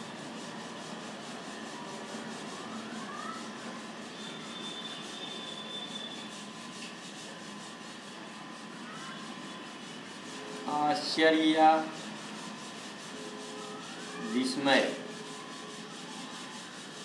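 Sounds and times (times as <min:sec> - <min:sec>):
marker squeaking on whiteboard: 0:00.1 - 0:17.0.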